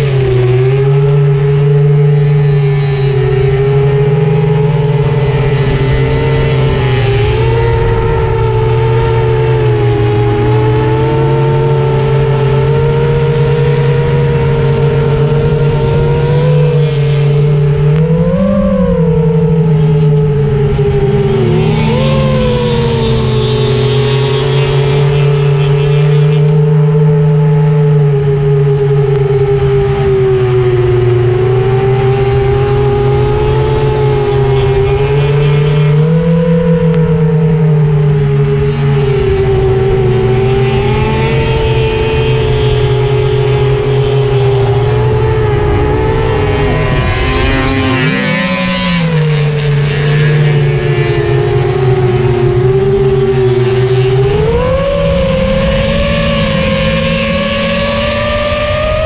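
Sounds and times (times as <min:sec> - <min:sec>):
racing vehicle engine revving: 0:00.0 - 0:59.0.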